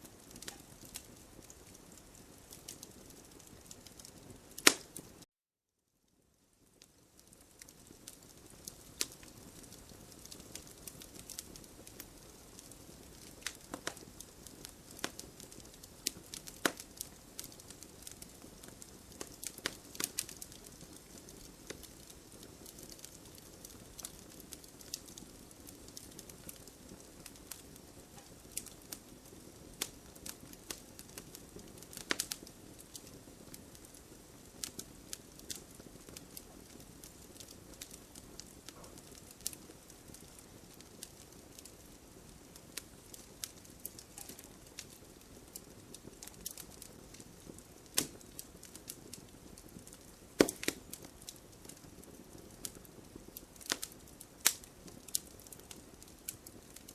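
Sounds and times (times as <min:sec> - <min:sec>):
campfire crackling: 0:00.0 - 0:05.2, 0:06.3 - 0:56.9.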